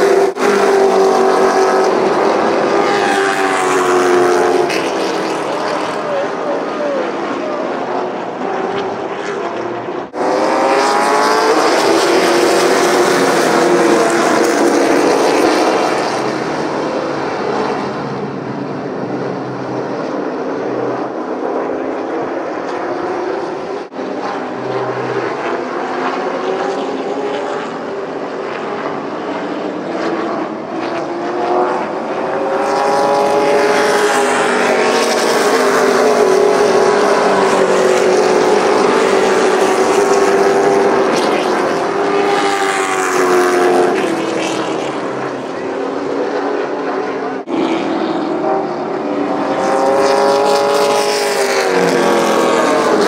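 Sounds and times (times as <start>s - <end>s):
race truck engines at high revs: 0.0s - 53.0s.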